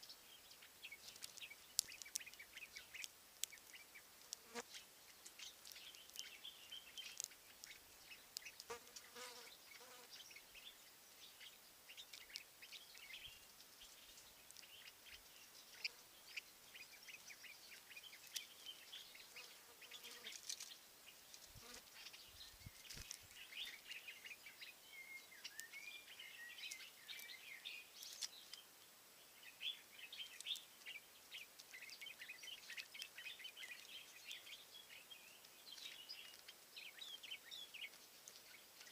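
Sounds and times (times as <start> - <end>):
small birds chirping and singing: 0.0 - 38.9.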